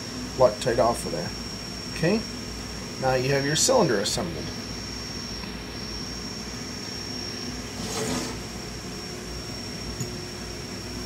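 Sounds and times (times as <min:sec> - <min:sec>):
faint high whine: 0:00.0 - 0:11.0
low room hum: 0:00.0 - 0:11.0.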